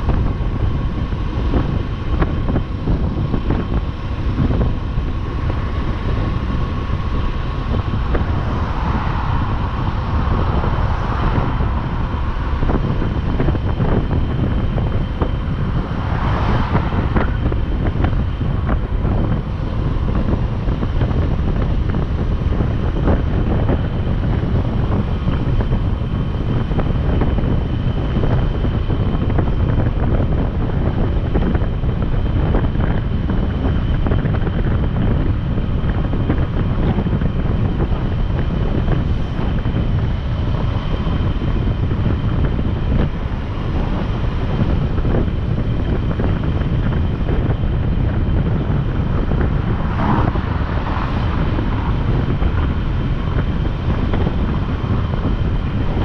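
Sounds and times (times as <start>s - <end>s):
motorcycle road rumble: 0.0s - 56.0s
wind buffeting microphone: 0.0s - 56.0s.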